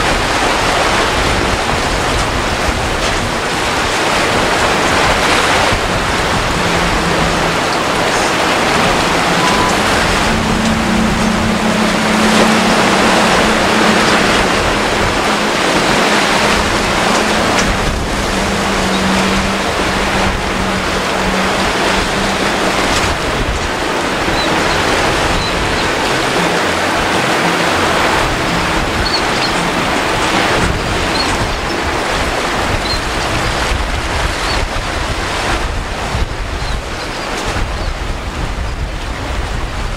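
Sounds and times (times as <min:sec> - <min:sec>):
boat outboard motors droning: 0:00.0 - 0:39.9
crashing surf: 0:00.0 - 0:39.9
wind buffeting microphone: 0:00.0 - 0:39.9.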